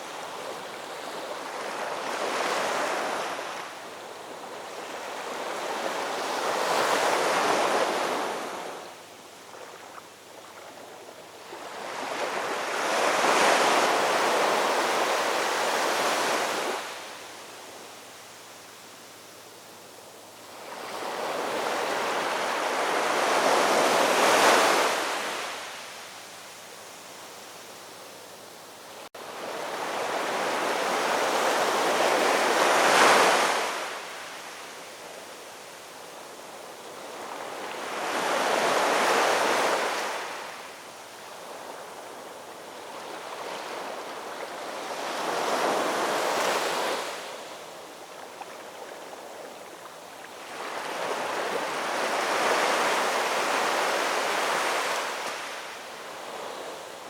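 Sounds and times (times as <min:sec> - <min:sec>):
ocean waves breaking on shore: 0:00.0 - 0:18.6, 0:19.6 - 0:26.3, 0:29.0 - 0:57.0.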